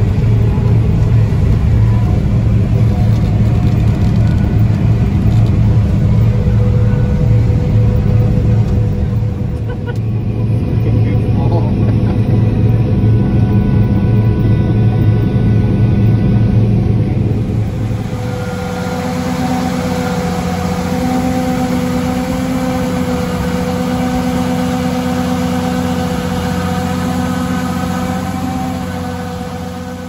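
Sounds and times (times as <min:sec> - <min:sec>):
combine engine drone: 0:00.0 - 0:30.0
machine whine: 0:00.0 - 0:30.0
tractor engine running: 0:00.0 - 0:30.0.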